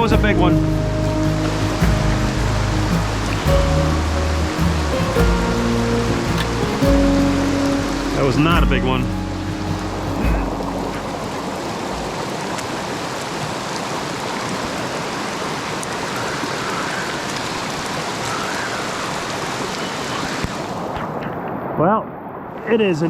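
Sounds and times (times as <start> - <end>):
heavy rain falling: 0.0 - 21.8
brook water rushing: 0.0 - 23.0.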